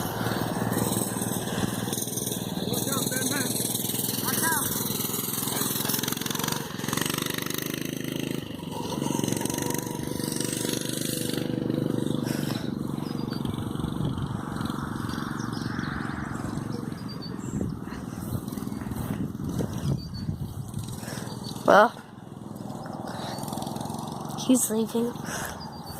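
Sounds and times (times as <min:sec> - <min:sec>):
mini bike engine running: 0:00.0 - 0:25.9.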